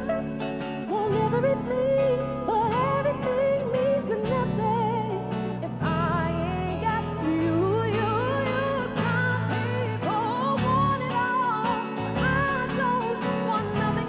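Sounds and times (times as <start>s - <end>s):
woman singing with vibrato: 0.0s - 14.0s.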